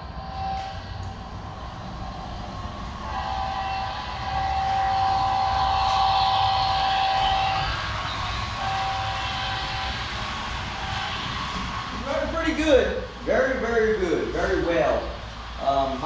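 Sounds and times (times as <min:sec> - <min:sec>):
steady high tone: 0:00.0 - 0:16.0.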